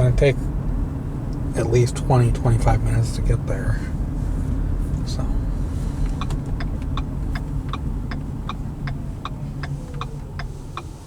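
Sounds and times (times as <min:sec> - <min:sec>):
car cabin rumble: 0:00.0 - 0:11.0
turn signal ticking: 0:00.0 - 0:11.0.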